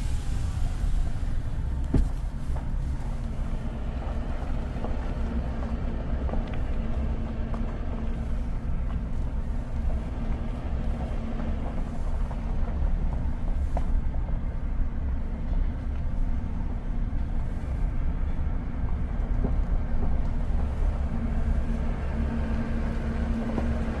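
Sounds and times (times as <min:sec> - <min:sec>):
constant hum: 0:00.0 - 0:24.0
paving machine engine rumble: 0:00.0 - 0:24.0.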